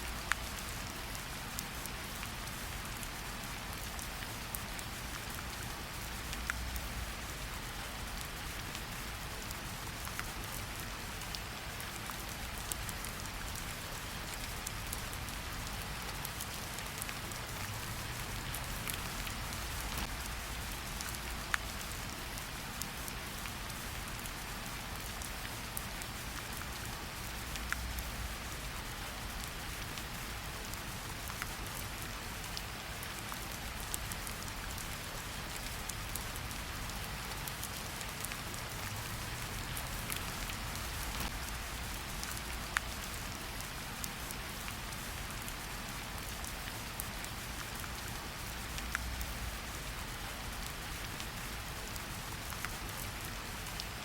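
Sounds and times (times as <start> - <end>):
rain pattering in forest: 0.0 - 54.0.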